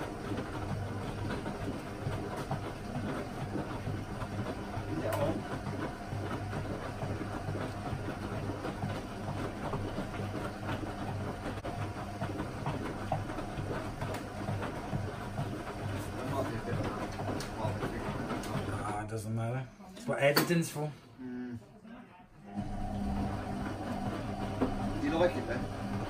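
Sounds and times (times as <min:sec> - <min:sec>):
washing machine motor hum: 0:00.0 - 0:21.5, 0:22.3 - 0:26.0.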